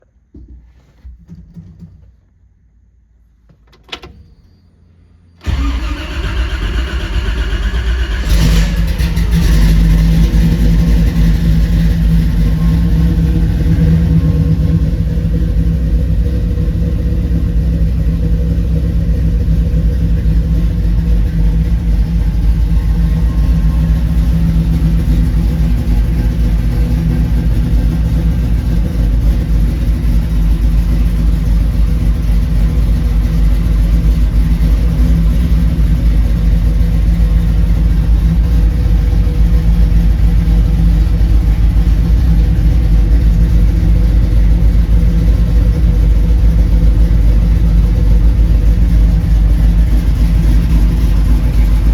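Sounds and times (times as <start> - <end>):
car engine idling: 5.4 - 51.9.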